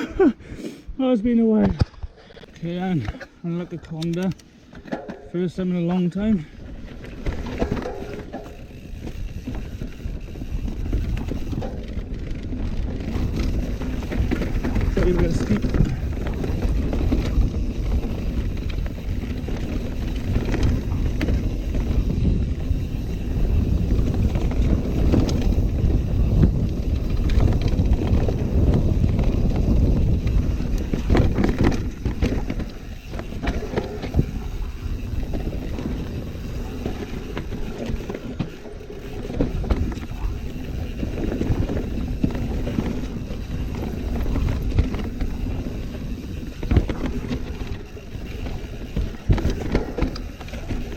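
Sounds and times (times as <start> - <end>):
bike knocking and rattling: 1.4 - 50.9
tyre and wind rumble: 4.9 - 50.9.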